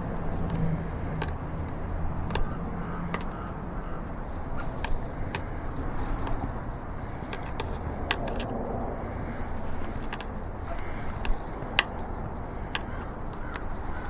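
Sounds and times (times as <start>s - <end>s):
low background rumble: 0.0s - 14.0s
tire levers clicking on rim: 0.0s - 14.0s.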